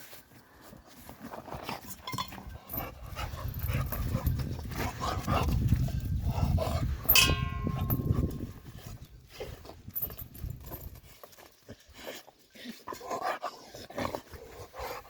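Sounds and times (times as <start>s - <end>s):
puppy panting and snuffling: 0.9s - 15.0s.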